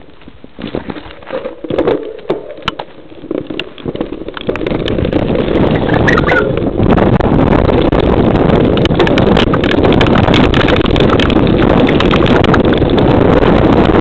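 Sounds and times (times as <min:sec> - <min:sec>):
bike rattling: 0:00.0 - 0:14.0
tyres on gravel: 0:00.0 - 0:14.0
wind on microphone: 0:00.0 - 0:14.0.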